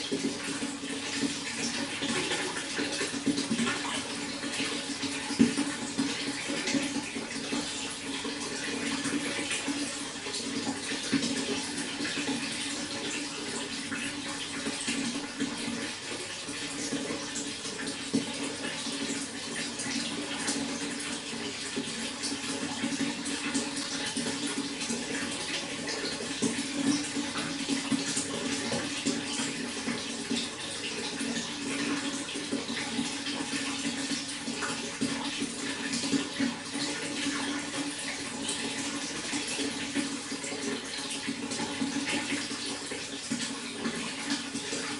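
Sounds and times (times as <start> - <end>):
running water splashing: 0.0 - 44.9.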